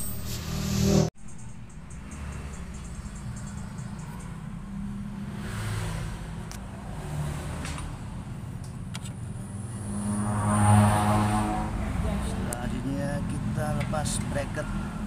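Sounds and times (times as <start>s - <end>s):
passing vehicle engines: 0.0s - 15.0s.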